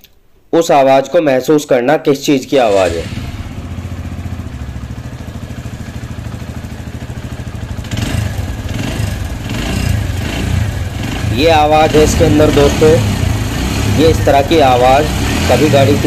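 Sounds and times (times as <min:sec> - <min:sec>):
motorcycle engine idling: 0:02.7 - 0:16.0.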